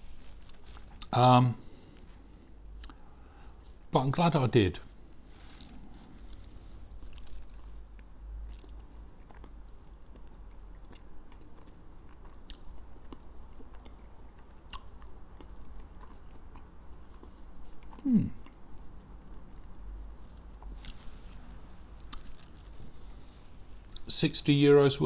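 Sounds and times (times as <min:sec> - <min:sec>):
man chewing food: 0:00.0 - 0:03.9, 0:04.9 - 0:24.1
clicks and crunches of chewing: 0:00.2 - 0:03.8, 0:05.3 - 0:24.1.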